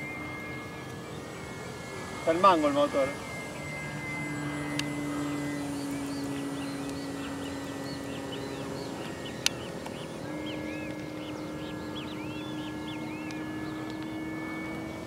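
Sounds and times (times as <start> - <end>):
model plane motor drone: 0.0 - 15.0.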